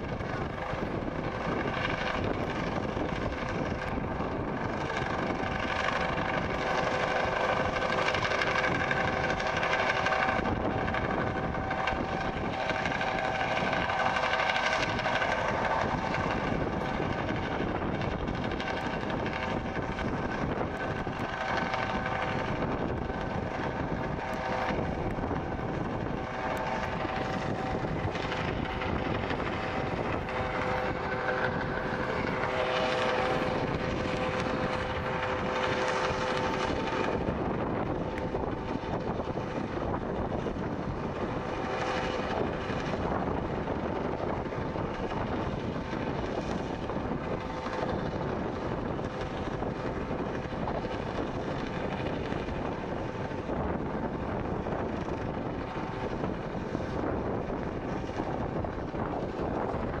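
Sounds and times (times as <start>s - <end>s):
helicopter rotor noise: 0.0s - 60.0s
helicopter turbine whine: 0.0s - 60.0s.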